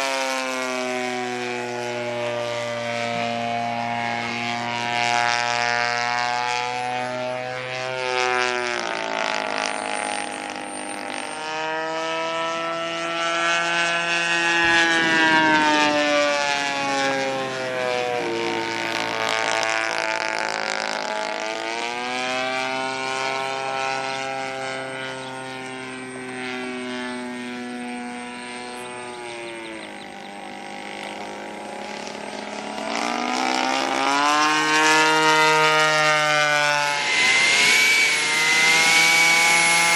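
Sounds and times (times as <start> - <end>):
model plane engine in flight: 0.0 - 39.9
propeller buzzing: 0.0 - 39.9.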